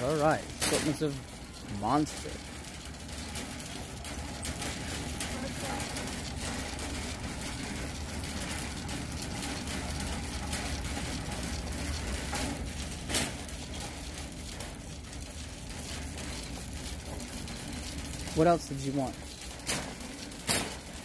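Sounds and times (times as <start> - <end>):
metal basket rattling: 0.0 - 21.0
shopping cart wheels rumbling: 0.0 - 21.0.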